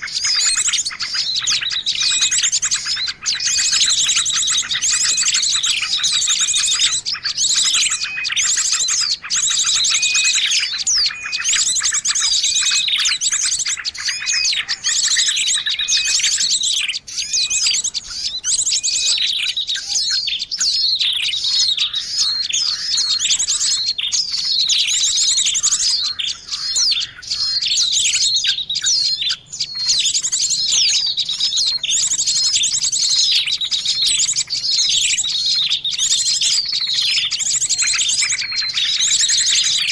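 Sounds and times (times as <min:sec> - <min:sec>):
rapid high bird chirps and trills: 0:00.0 - 0:39.9.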